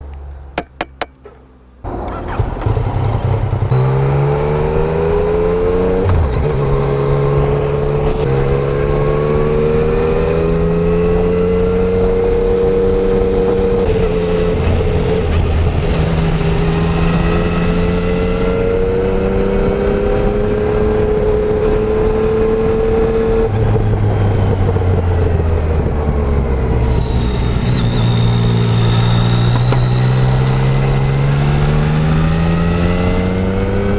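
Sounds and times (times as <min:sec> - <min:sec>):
motorcycle engine: 0:00.0 - 0:33.9.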